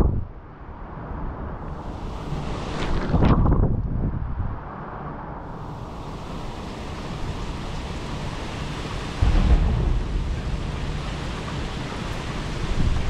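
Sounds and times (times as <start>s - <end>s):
wind gust buffeting microphone: 0.0s - 4.7s, 5.4s - 13.0s
strong wind rushing: 0.0s - 13.0s.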